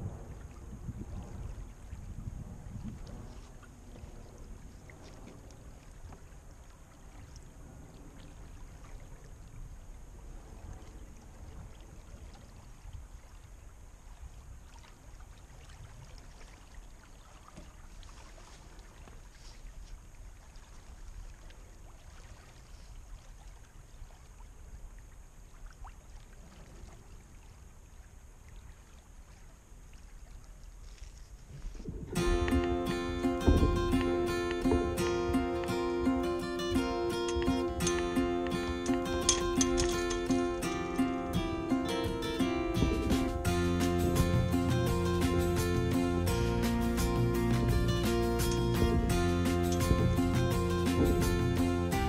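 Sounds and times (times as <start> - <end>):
water lapping against boat hull: 0.0 - 52.0
wind rumble on microphone: 0.0 - 52.0.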